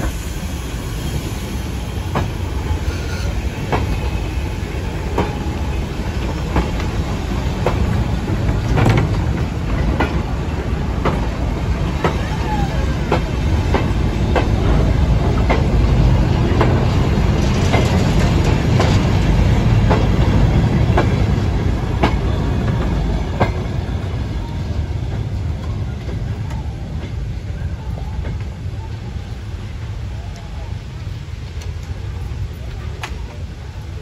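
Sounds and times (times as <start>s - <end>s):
low train rumble: 0.0s - 34.0s
train wheels clicking on track: 0.0s - 34.0s.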